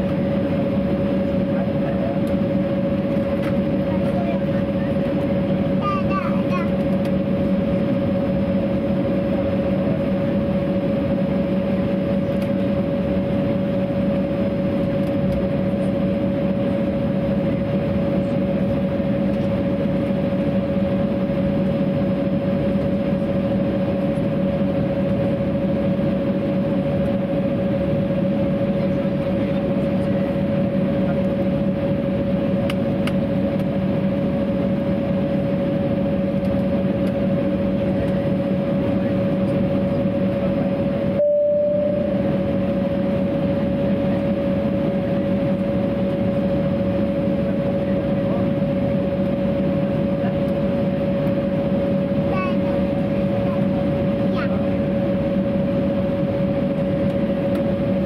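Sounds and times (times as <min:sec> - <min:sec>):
aircraft engines idling: 0:00.0 - 0:58.0.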